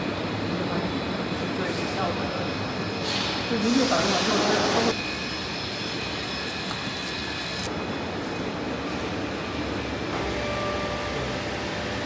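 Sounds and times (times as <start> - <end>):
factory machinery whining: 0.0 - 12.0.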